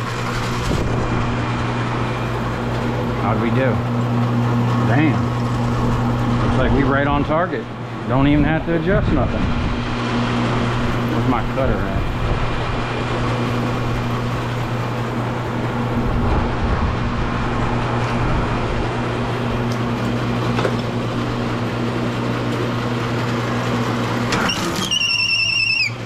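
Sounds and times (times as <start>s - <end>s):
wire stripper motor hum: 0.0s - 26.0s.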